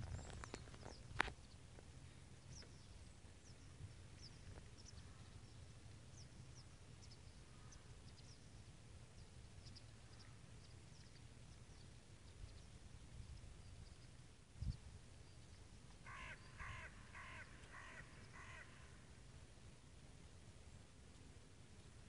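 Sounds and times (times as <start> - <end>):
birds chirping: 0.0 - 19.0
low steady rumble: 0.0 - 22.0.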